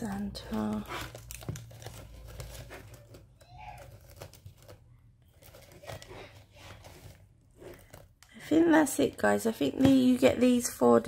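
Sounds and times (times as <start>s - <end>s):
plastic packet crinkling: 0.0s - 9.5s.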